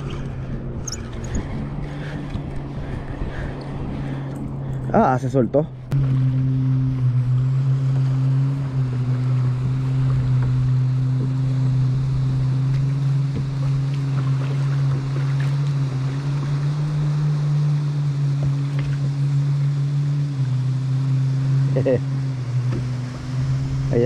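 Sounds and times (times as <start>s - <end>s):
water lapping at kayak hull: 0.0s - 5.2s, 5.8s - 24.0s
steady low hum: 0.0s - 24.0s.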